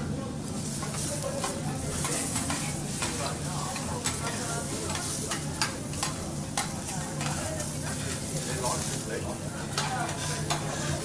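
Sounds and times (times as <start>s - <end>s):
food sizzling on a griddle: 0.3s - 11.0s.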